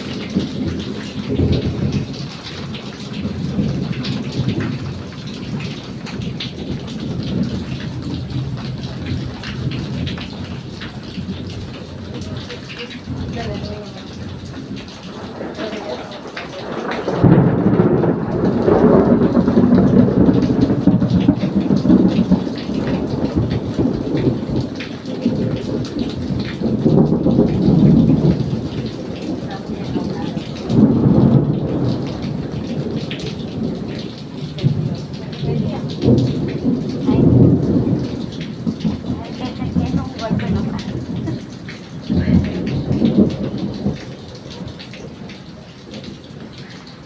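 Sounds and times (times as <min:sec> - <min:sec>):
heavy rain pouring: 0:00.0 - 0:47.0
thunder rumbling: 0:00.0 - 0:47.0.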